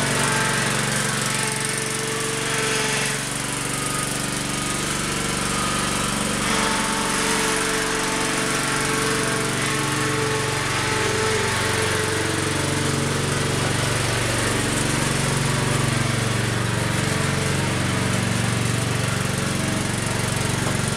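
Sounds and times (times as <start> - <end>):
small dumper engine running: 0.0 - 20.9.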